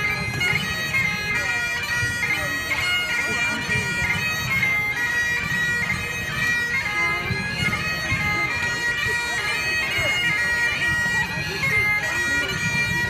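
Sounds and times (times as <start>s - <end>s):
bagpipes playing dance tune: 0.0s - 13.0s.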